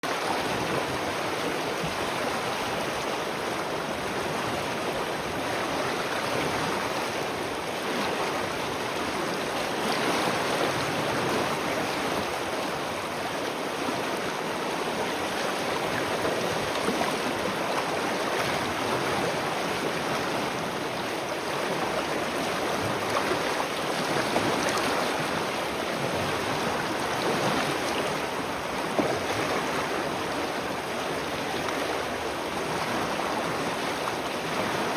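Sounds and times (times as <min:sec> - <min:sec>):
spring water flowing and splashing: 0:00.0 - 0:34.9.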